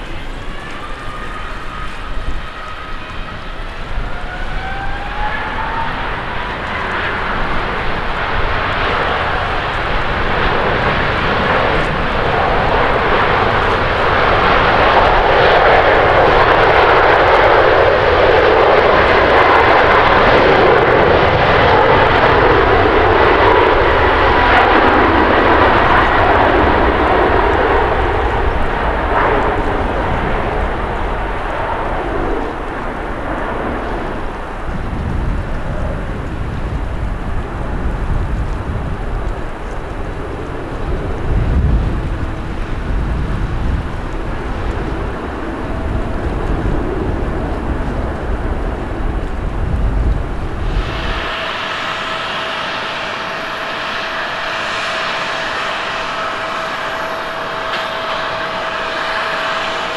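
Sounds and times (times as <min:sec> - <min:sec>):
jet engines at takeoff: 0:00.0 - 0:59.9.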